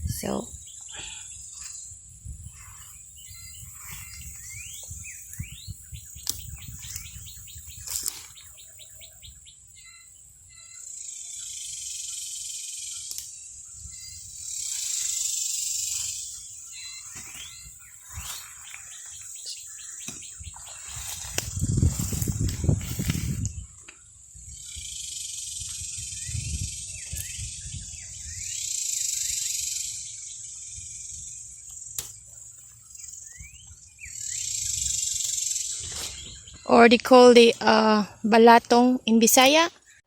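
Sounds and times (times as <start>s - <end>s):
high-pitched insect hum: 0.0s - 39.7s
birds chirping and singing: 0.0s - 40.0s
bird trill: 0.2s - 22.5s, 23.2s - 38.5s.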